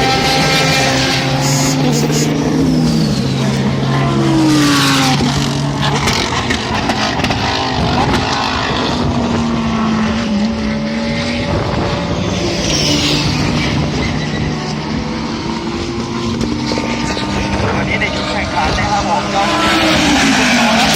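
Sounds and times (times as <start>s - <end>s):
race car engines passing: 0.0s - 20.9s.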